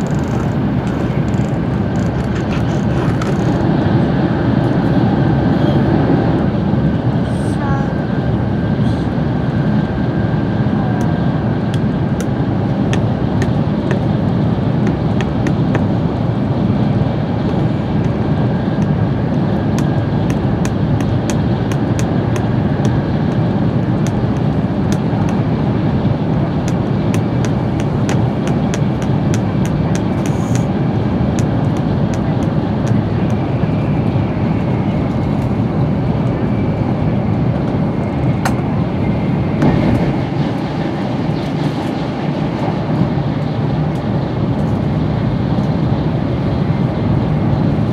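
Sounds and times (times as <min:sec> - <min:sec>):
train rumbling inside cabin: 0:00.0 - 0:47.9.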